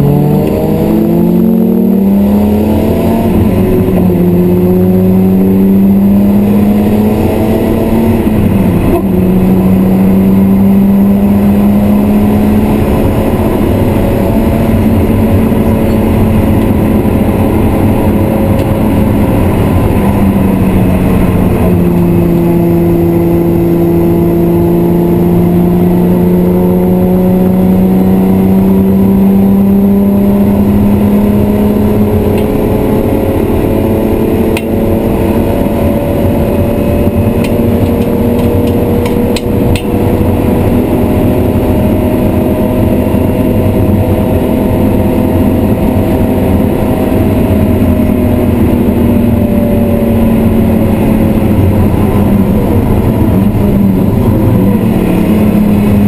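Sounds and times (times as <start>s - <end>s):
car engine under load: 0.0s - 56.0s.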